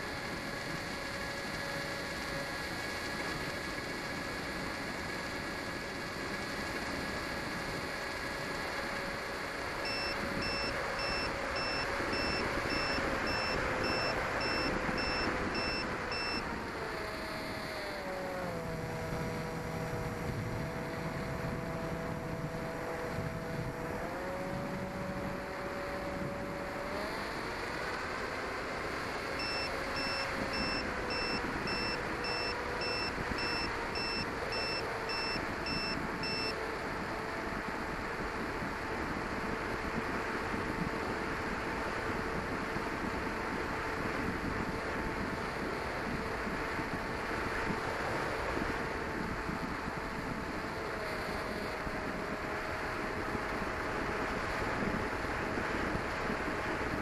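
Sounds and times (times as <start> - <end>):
model plane motor whine: 0.0 - 57.0
wind noise: 9.7 - 27.8, 28.7 - 57.0.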